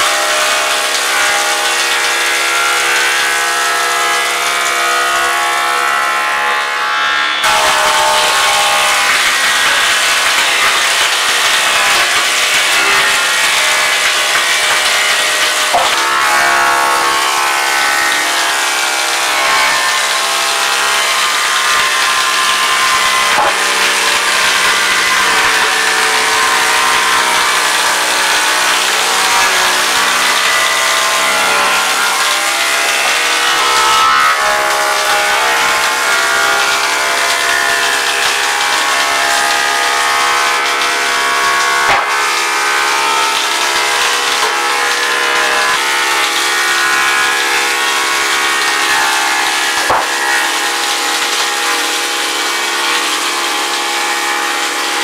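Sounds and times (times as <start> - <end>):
thickness planer whining: 0.0 - 55.0.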